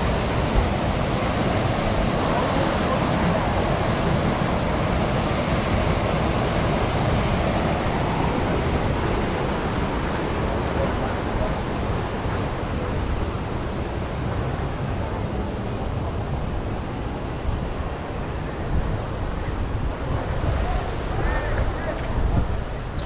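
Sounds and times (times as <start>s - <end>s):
surf washing onto beach: 0.0s - 23.0s
wind on microphone: 0.0s - 23.0s.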